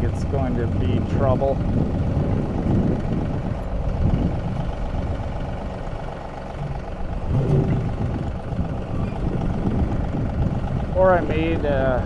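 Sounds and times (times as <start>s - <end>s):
tractor diesel engine running: 0.0s - 12.0s
wind buffeting microphone: 0.0s - 12.0s.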